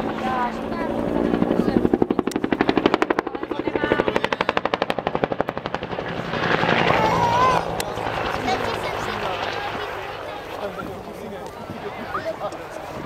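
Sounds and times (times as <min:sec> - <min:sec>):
helicopter rotor blade slap: 0:00.0 - 0:13.0.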